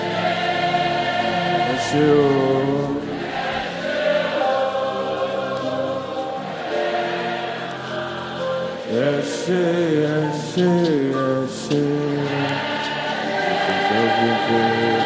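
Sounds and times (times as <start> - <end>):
choir singing long wordless notes: 0.0 - 15.0.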